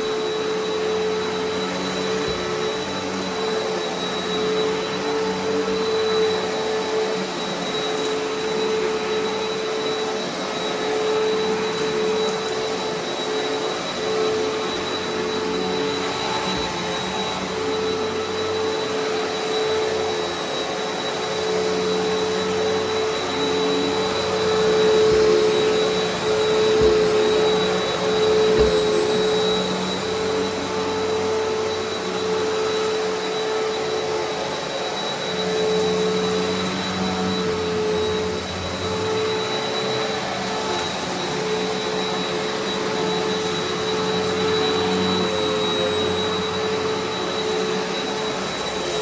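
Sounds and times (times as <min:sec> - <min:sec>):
vacuum cleaner running on carpet: 0:00.0 - 0:49.0.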